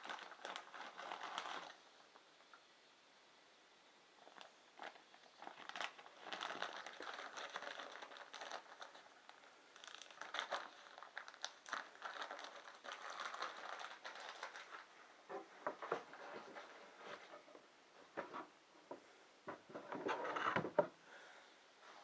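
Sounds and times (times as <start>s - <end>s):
crinkling and rustling: 0.0s - 1.8s, 4.2s - 21.0s.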